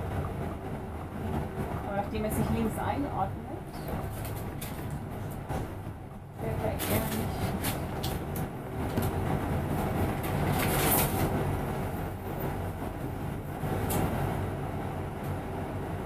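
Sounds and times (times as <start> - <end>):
bus diesel engine humming: 0.0 - 16.0
cabin rumble and rattle: 0.0 - 16.0.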